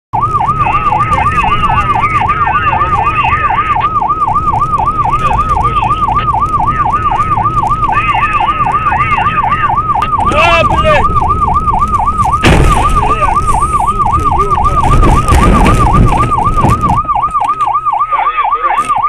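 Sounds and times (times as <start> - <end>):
car road and engine rumble: 0.2 - 19.0
siren yelping: 0.2 - 19.0.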